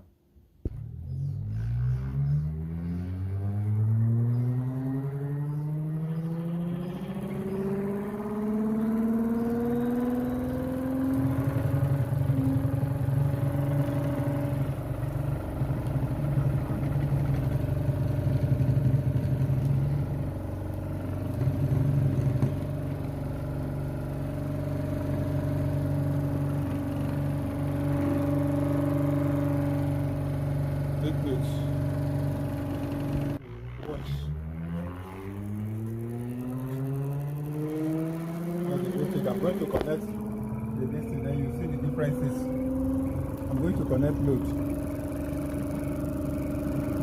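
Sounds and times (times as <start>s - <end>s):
electric motor humming with rattle: 6.2s - 47.0s.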